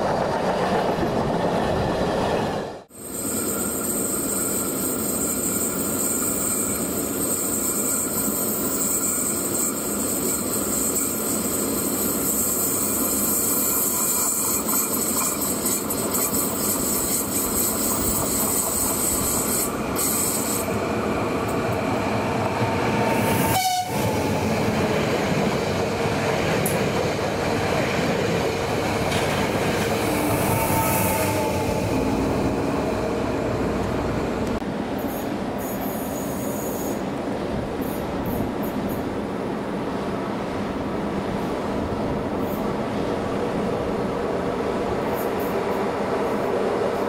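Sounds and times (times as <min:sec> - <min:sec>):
train approaching: 0:00.0 - 0:47.0
train rail and wheel noise: 0:00.0 - 0:47.0.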